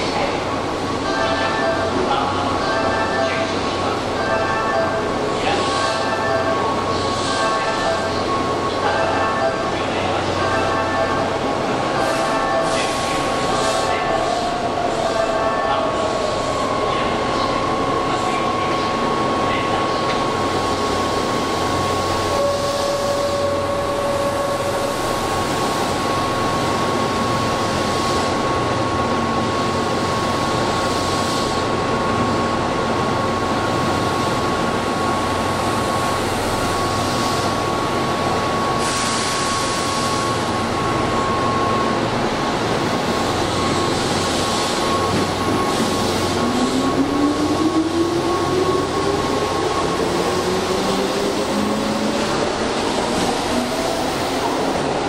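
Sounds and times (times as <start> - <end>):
train standing humming: 0.0 - 55.0.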